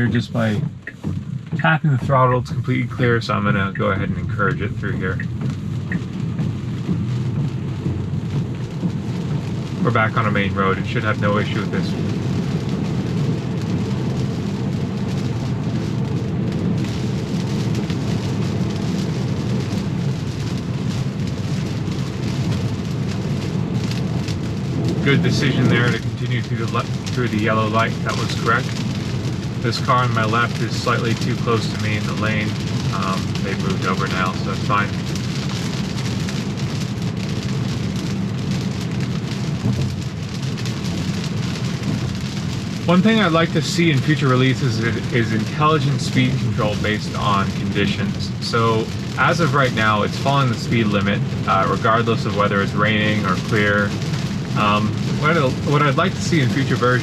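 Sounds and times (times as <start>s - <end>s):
rain: 0.0s - 57.0s
tyres on wet road: 0.0s - 57.0s.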